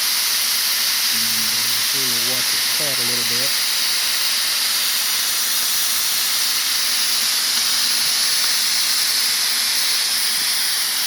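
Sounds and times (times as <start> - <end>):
cutting torch flame hissing: 0.0 - 11.0.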